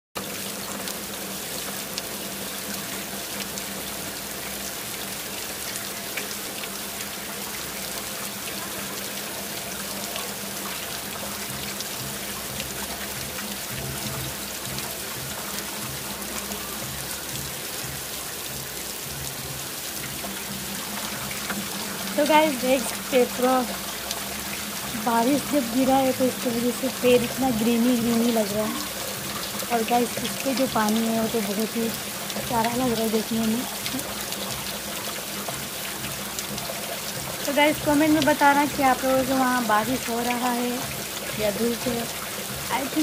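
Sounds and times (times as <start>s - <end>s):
rain on rooftops and metal railing: 0.2s - 43.0s.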